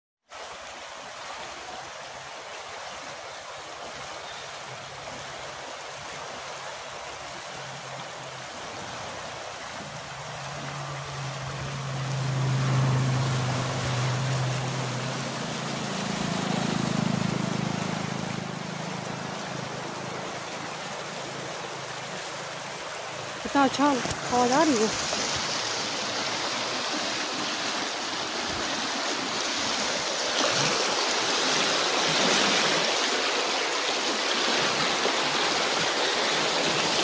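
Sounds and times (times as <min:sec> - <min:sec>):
river water rushing: 0:00.3 - 0:37.0.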